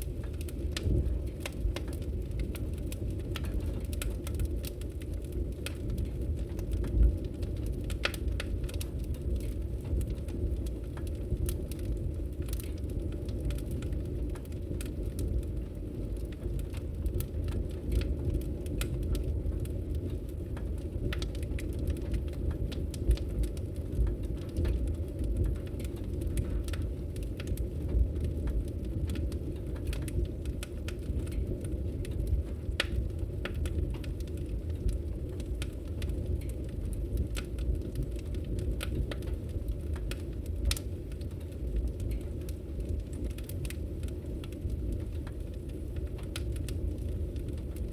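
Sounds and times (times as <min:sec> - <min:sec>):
fire crackling and popping: 0:00.0 - 0:47.9
low fire rumble: 0:00.0 - 0:47.9.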